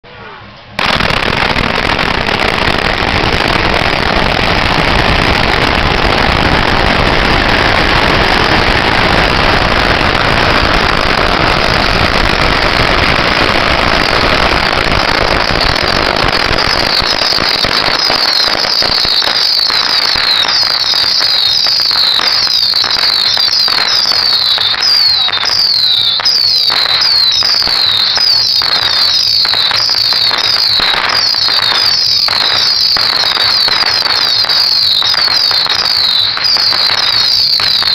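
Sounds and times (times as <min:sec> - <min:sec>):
whistling fireworks: 0:00.1 - 0:37.9
firecrackers crackling: 0:00.8 - 0:37.9
firework bangs: 0:00.8 - 0:37.9.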